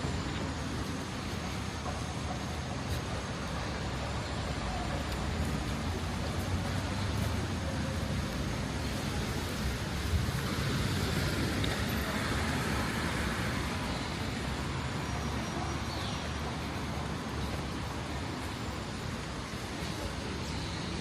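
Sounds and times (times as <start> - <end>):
cars passing on city street: 0.0 - 21.0.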